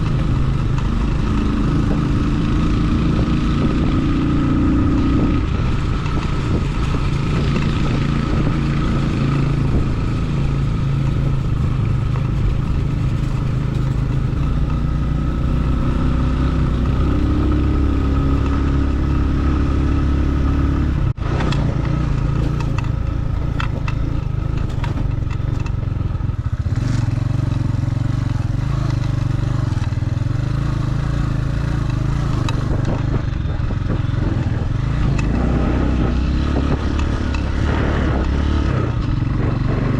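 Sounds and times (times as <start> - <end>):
motorcycle engine running: 0.0 - 39.9
wind: 0.0 - 39.9.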